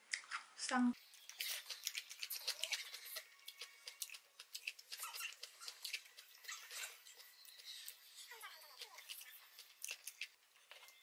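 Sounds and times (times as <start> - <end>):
chewing: 1.0 - 11.0.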